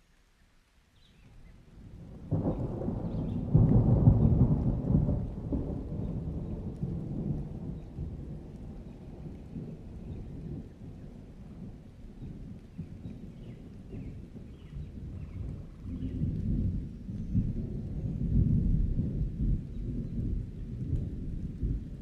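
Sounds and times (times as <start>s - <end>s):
rain: 0.0s - 22.0s
thunder rumbling: 1.8s - 22.0s.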